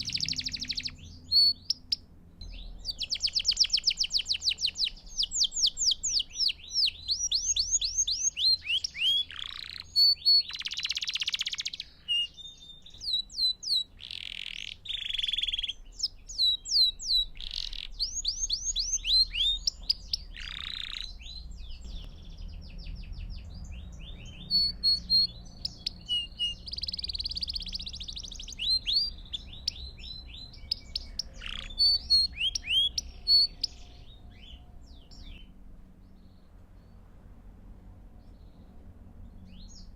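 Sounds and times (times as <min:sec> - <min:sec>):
canary singing trills: 0:00.0 - 0:37.1, 0:38.1 - 0:39.9.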